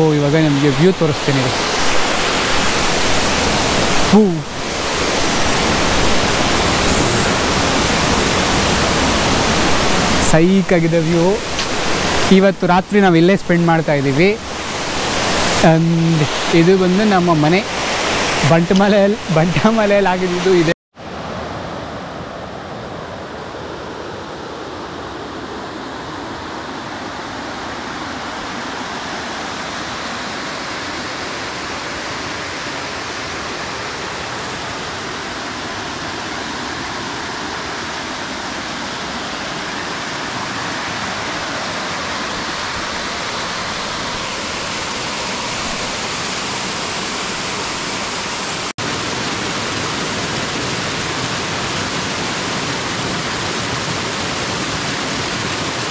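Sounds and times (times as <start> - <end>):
waterfall and stream rushing: 0.0 - 55.9.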